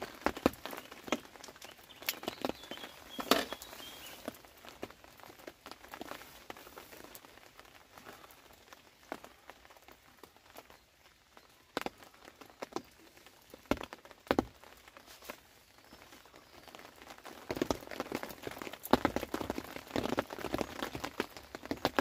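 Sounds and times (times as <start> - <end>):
raindrops tapping on umbrella: 0.0 - 22.0.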